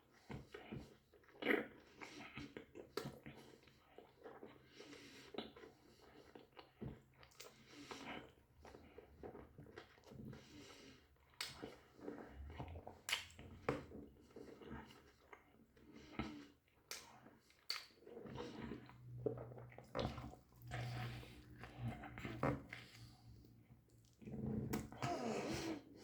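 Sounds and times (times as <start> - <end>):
quiet chewing with mouth smacks: 0.0 - 26.0.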